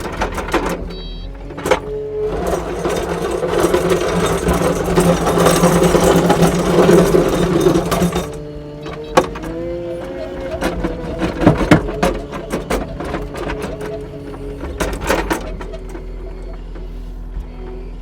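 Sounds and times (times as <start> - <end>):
fast mechanical clatter: 0.0 - 16.9
diesel engine running under load: 0.0 - 18.0.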